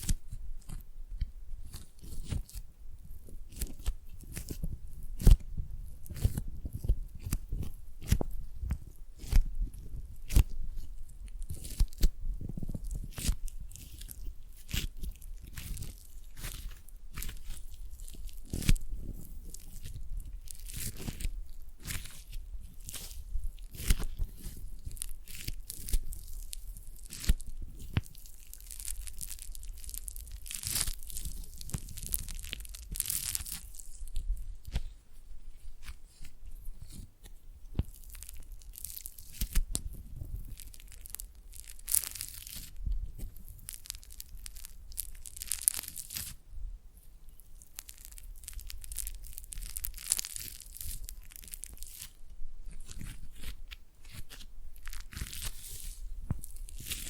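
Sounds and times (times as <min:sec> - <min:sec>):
foam clay crunching and tearing: 0:00.0 - 0:00.9, 0:01.6 - 0:46.4, 0:47.0 - 0:57.0.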